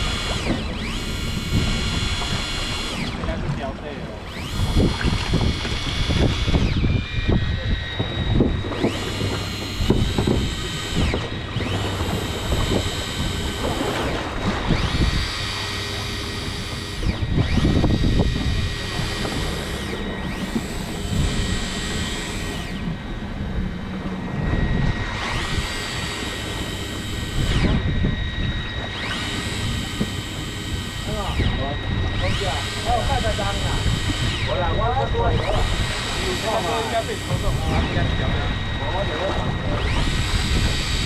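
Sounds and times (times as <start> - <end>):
rushing wind: 0.0 - 36.4, 37.4 - 41.0
motor whining: 0.0 - 41.0
water noise: 0.0 - 41.0.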